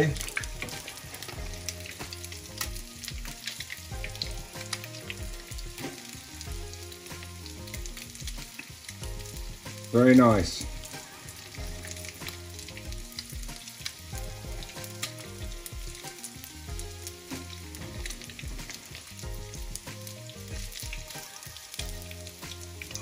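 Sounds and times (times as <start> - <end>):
fish sizzling in hot oil: 0.0 - 23.0
soft background music: 0.0 - 23.0.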